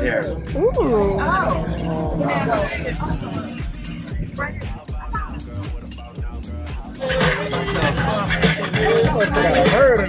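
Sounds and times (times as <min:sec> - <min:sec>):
rapping over a beat: 0:00.0 - 0:10.0.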